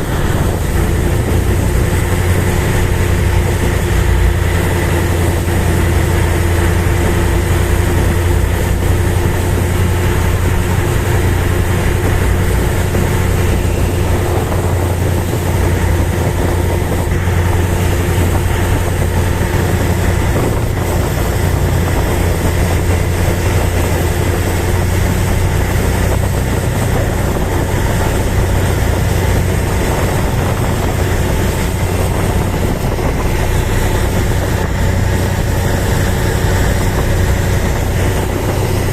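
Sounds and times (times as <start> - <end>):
boat engine droning: 0.0 - 38.9
constant rushing noise: 0.0 - 38.9.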